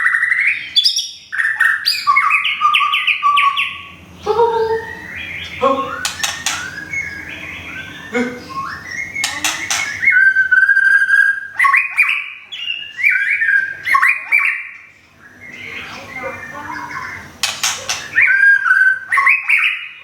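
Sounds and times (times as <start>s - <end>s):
bird singing whistled phrases: 0.0s - 3.9s, 4.8s - 20.0s.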